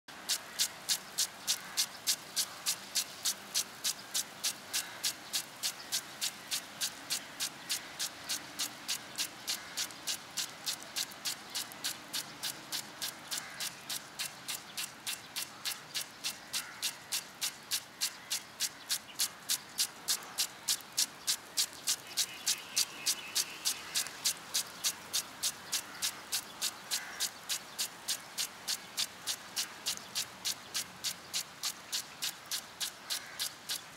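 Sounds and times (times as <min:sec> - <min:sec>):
impact sprinkler ticking: 0:00.1 - 0:33.9
faint hiss of spray: 0:00.2 - 0:33.9.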